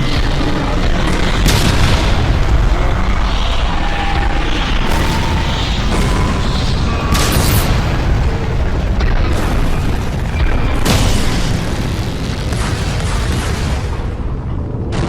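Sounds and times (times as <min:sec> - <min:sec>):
booming explosions: 0:00.0 - 0:15.0
deep rumble: 0:00.0 - 0:15.0.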